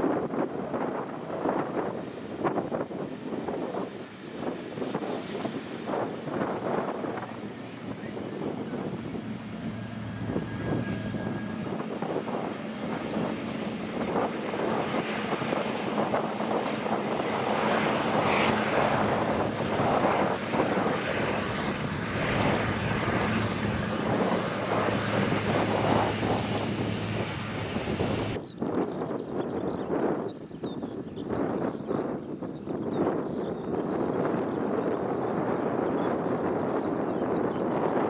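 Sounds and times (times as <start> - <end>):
jet engines humming and rushing: 0.0 - 38.0.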